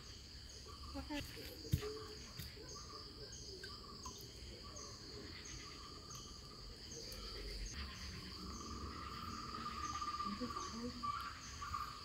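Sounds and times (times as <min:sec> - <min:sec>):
insect chirps: 0:00.0 - 0:12.0
insects buzzing: 0:00.0 - 0:12.0.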